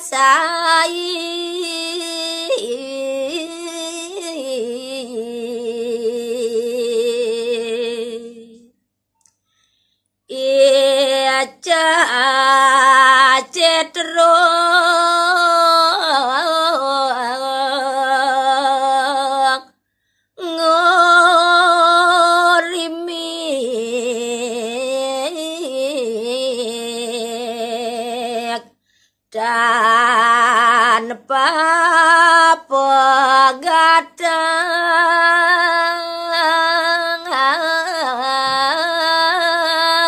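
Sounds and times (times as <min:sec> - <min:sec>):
woman singing unaccompanied: 0:00.0 - 0:08.7, 0:10.3 - 0:19.8, 0:20.4 - 0:40.0.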